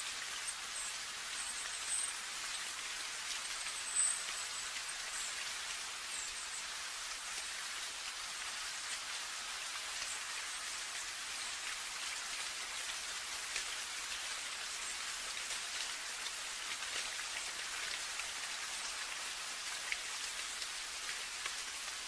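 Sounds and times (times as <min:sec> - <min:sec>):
steady rain hissing: 0:00.0 - 0:22.0.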